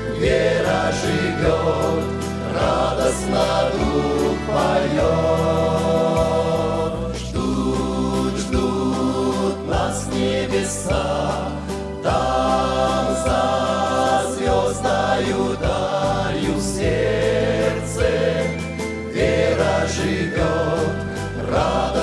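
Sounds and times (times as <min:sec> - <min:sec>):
group singing a hymn: 0:00.0 - 0:22.0
instrumental accompaniment: 0:00.0 - 0:22.0.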